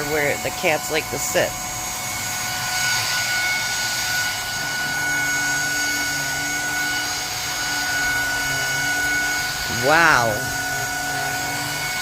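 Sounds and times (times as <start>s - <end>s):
handheld vacuum cleaner running: 0.0s - 12.0s.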